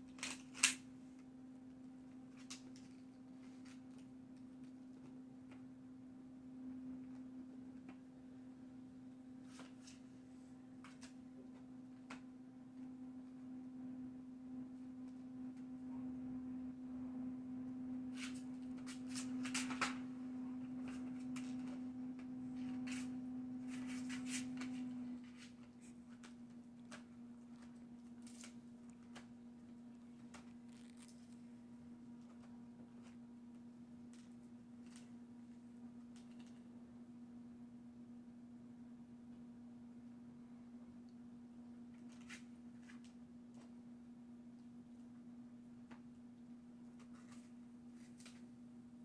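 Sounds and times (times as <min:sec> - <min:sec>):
low electrical hum: 0:00.0 - 0:49.0.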